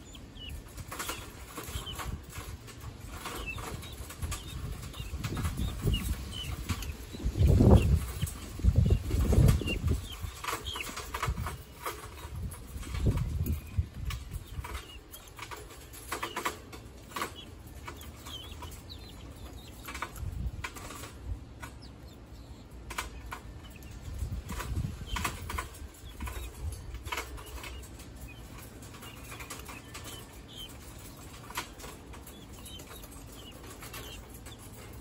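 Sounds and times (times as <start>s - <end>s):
birds pecking and scratching: 0.0s - 35.0s.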